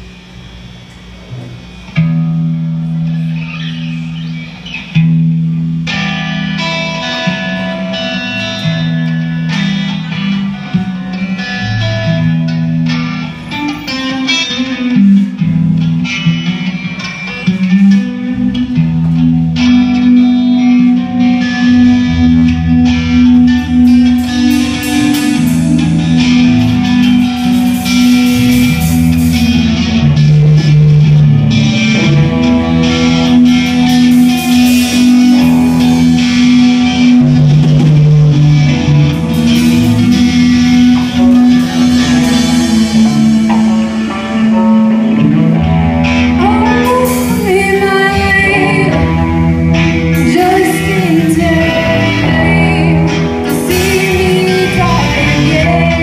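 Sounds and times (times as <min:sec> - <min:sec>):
low guitar riff: 0:00.0 - 0:56.0
live rock band playing: 0:01.6 - 0:56.0.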